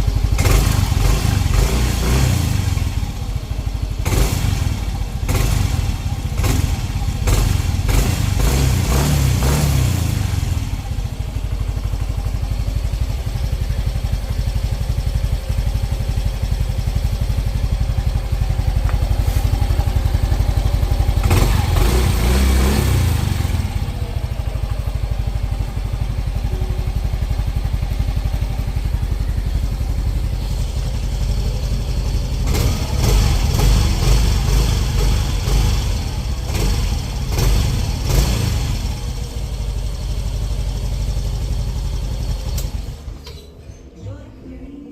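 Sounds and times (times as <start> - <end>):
scooter engine idling and revving: 0.0 - 43.6.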